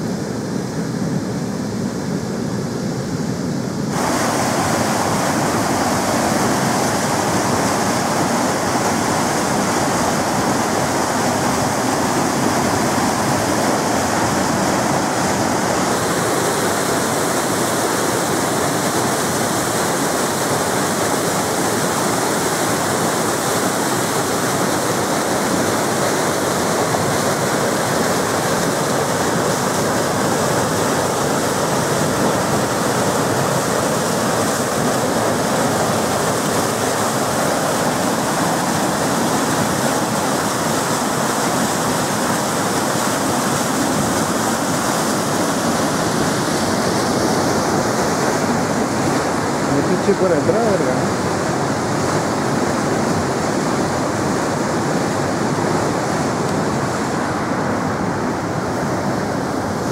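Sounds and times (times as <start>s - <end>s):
rushing white water: 0.0s - 59.9s.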